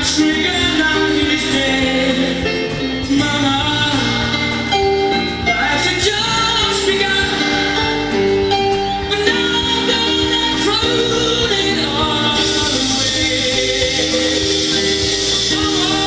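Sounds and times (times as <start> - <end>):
song from vinyl record: 0.0 - 16.0.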